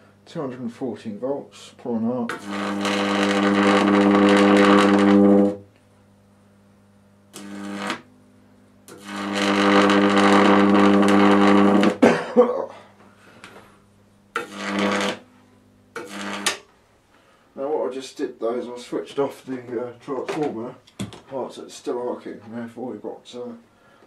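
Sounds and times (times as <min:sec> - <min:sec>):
transformer buzzing with arc crackle: 0:00.4 - 0:12.5, 0:13.2 - 0:20.7.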